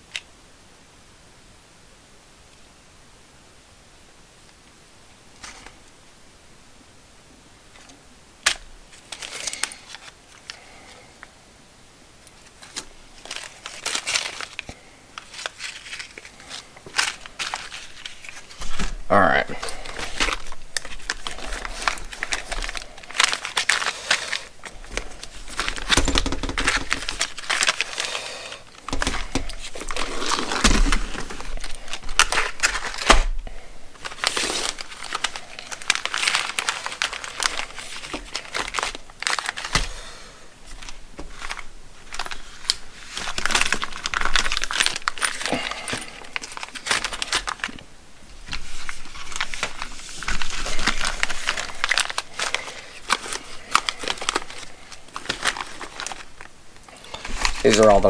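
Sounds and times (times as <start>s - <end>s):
plastic bags crinkling: 7.7s - 11.3s, 12.2s - 58.0s.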